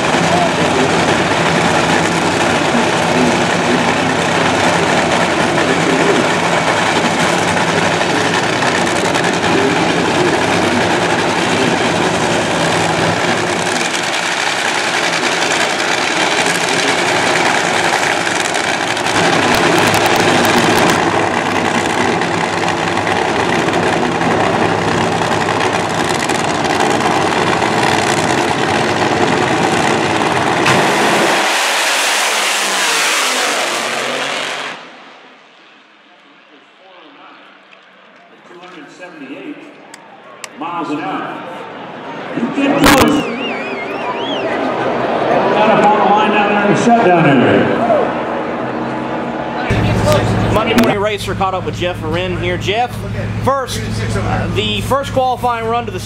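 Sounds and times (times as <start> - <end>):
drag racing engine idling: 0.0 - 35.9, 45.4 - 56.0.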